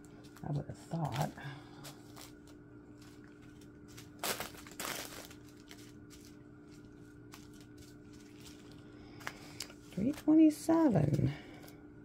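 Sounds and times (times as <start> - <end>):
plastic bags rustling: 0.0 - 11.7
faint steady hum: 0.0 - 12.0.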